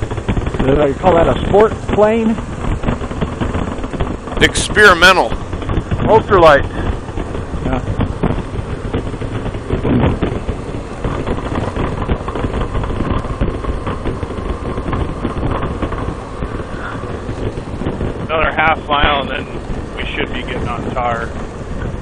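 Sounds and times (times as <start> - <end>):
motorcycle running: 0.0 - 22.0
wind rushing over microphone: 0.0 - 22.0.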